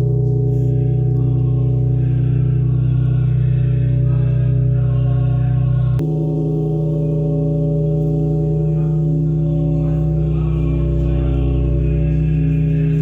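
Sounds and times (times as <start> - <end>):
church bell humming: 0.0 - 4.8, 6.0 - 13.0.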